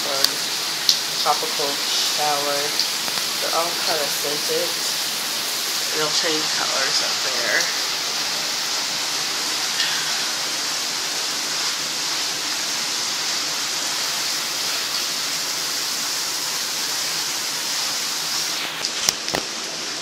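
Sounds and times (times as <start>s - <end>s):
shower water hissing: 0.0s - 20.0s.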